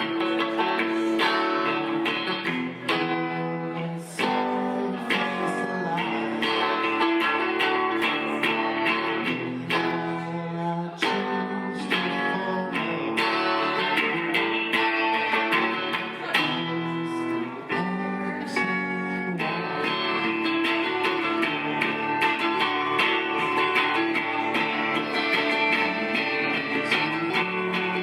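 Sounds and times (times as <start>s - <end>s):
guitar strumming chords: 0.0s - 28.0s.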